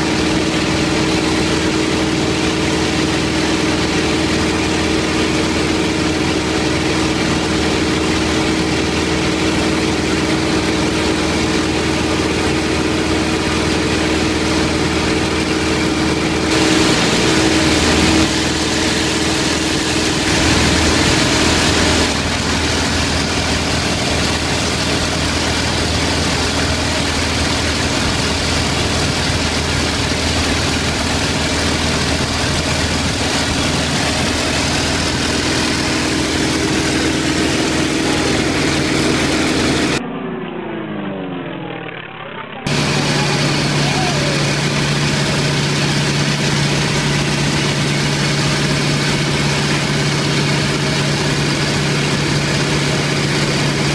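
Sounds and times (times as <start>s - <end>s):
radial engine drone in cockpit: 0.0s - 53.9s.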